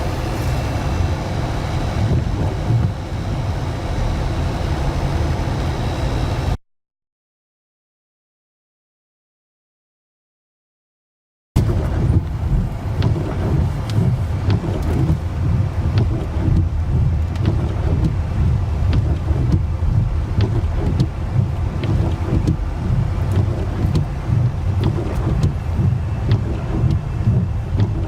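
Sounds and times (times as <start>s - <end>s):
wind buffeting microphone: 0.0s - 6.6s, 11.6s - 28.0s.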